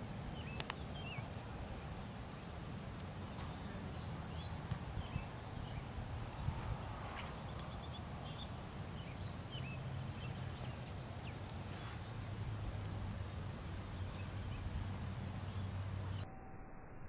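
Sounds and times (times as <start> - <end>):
birds chirping: 0.0 - 16.2
steady low rumble: 0.0 - 16.2.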